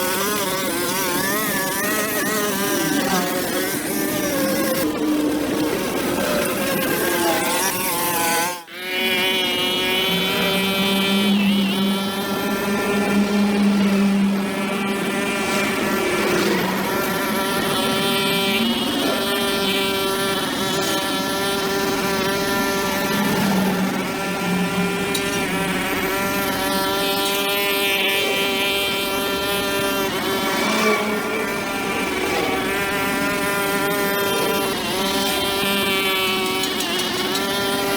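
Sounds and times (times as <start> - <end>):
brush cutter engine running: 0.0 - 37.9.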